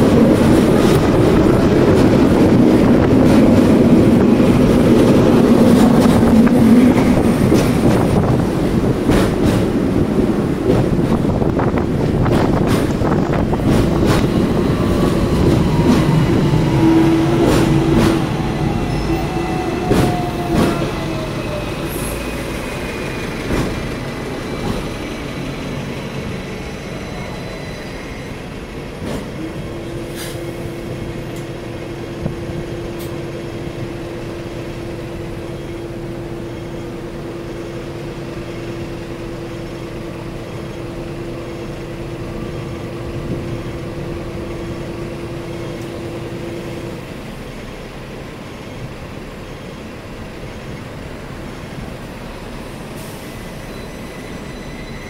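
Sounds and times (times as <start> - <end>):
tram humming: 0.0 - 55.0
tram motor whine: 0.0 - 55.0.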